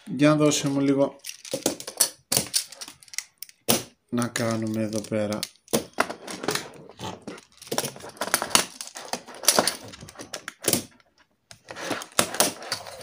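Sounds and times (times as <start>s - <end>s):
plastic tiles clacking together: 1.2s - 13.0s.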